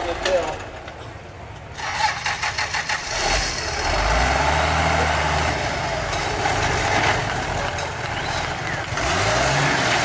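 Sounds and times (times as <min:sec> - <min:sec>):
truck engine working hard: 0:01.7 - 0:10.0.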